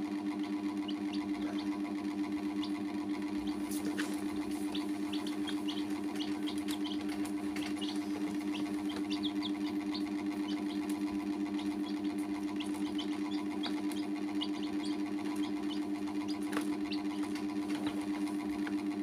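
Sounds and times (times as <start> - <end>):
baby chicks peeping: 0.2 - 19.0
low pulsing hum: 0.2 - 19.0.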